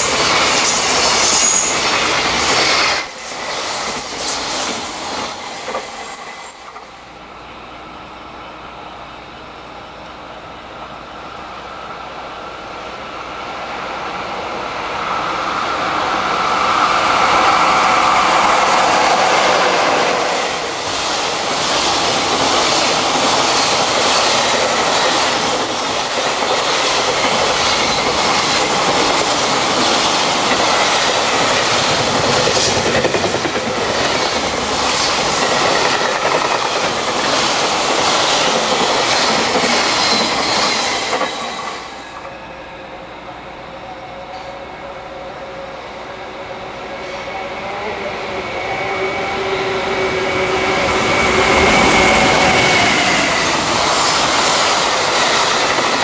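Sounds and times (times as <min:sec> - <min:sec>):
electric locomotive passing: 0:00.0 - 0:56.0.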